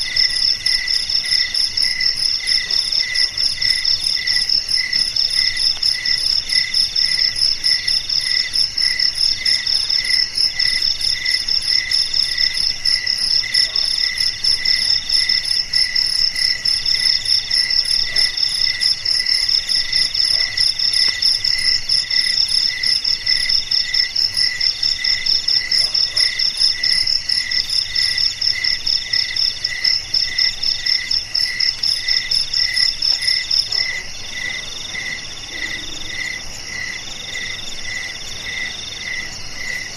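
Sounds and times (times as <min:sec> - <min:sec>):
lower cricket chirp: 0:00.0 - 0:39.9.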